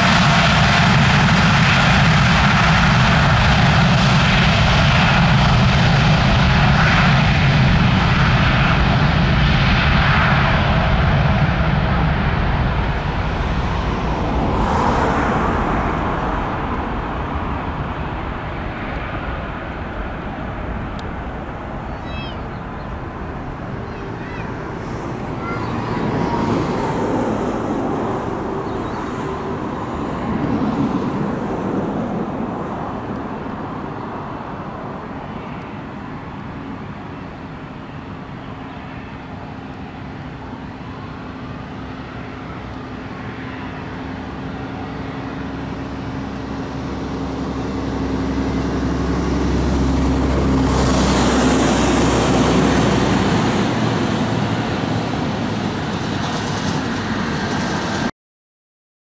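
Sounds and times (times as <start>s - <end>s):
jet engines roaring: 0.0s - 58.1s.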